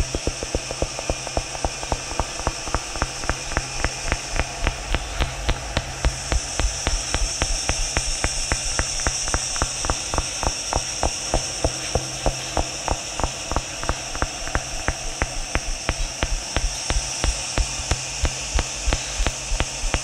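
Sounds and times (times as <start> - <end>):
high hiss: 0.0 - 20.0
low electrical hum: 0.0 - 20.0
sharp clicks: 0.0 - 20.0.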